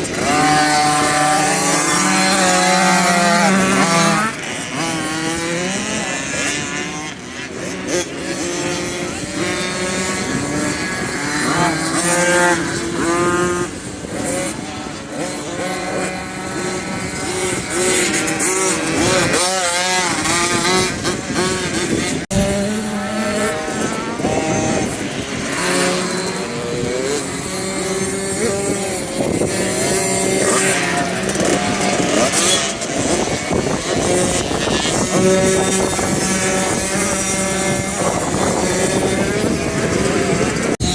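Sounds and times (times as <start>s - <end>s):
motocross bike engines revving: 0.0s - 40.9s.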